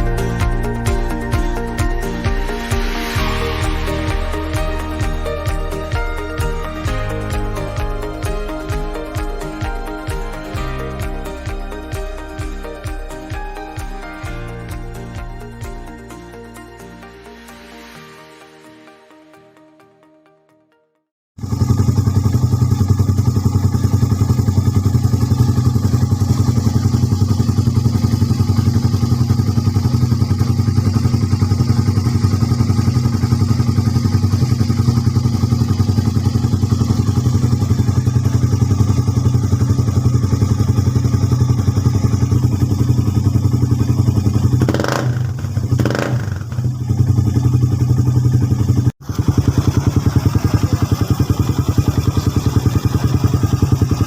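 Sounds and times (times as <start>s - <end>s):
motorcycle engine idling and revving: 0.0s - 18.0s, 21.4s - 54.0s.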